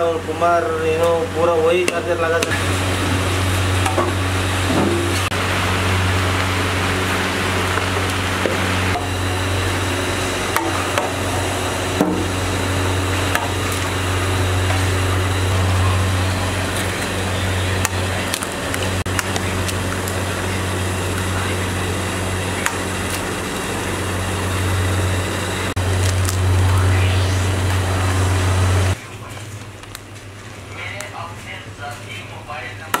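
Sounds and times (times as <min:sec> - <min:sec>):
low hum: 0:00.2 - 0:29.0.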